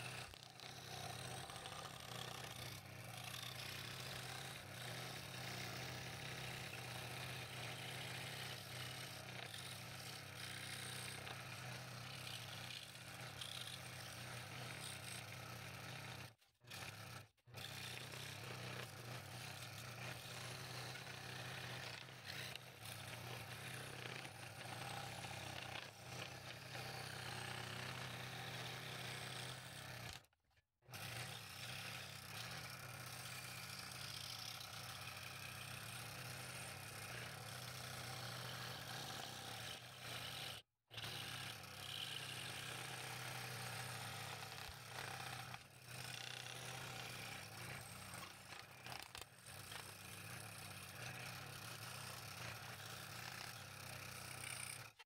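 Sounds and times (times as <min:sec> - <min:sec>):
scroll saw cutting wood: 0:00.0 - 0:55.0.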